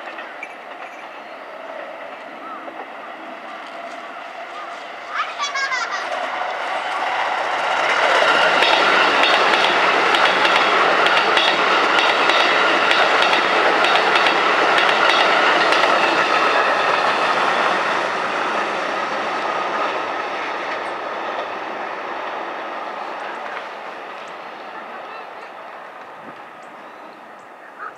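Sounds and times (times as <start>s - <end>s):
train wheels clicking over rail joints: 0.0s - 2.9s, 6.0s - 26.8s
electric train passing: 0.0s - 27.9s.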